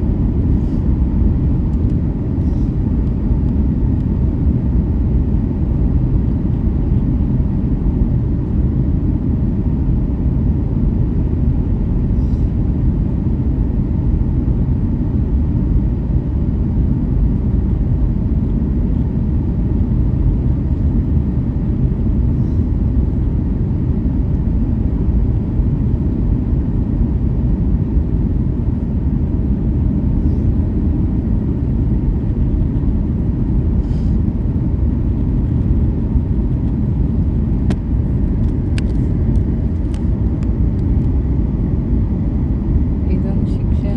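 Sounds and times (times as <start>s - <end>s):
airliner cabin engine drone: 0.0s - 43.9s.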